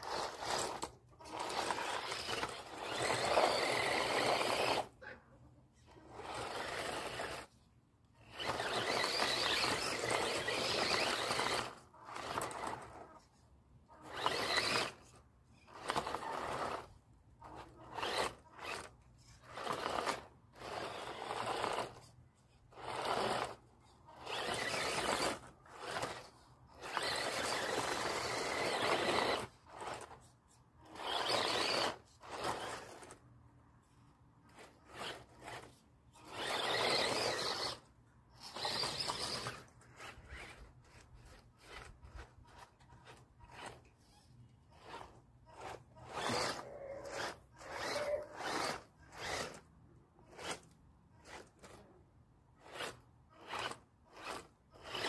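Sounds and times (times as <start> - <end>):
remote-control car motor bursts: 0.0 - 5.0, 5.8 - 7.6, 8.2 - 13.2, 13.8 - 33.2, 34.5 - 51.8, 52.6 - 55.0
tyres churning in sandy dirt: 0.0 - 5.0, 5.9 - 7.5, 8.2 - 13.2, 14.0 - 22.1, 22.7 - 30.2, 30.8 - 33.2, 34.5 - 43.9, 44.7 - 49.7, 52.6 - 55.0.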